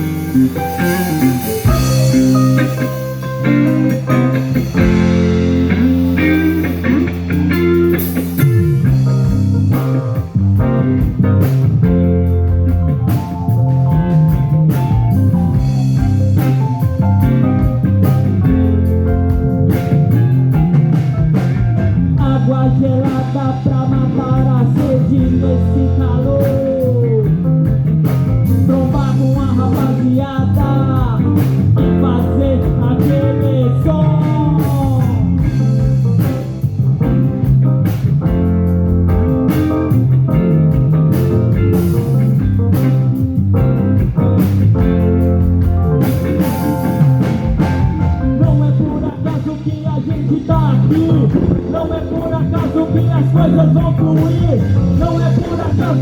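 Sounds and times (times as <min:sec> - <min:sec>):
bass guitar: 0:00.0 - 0:56.0
drum kit: 0:00.0 - 0:56.0
electric guitar lead: 0:00.0 - 0:56.0.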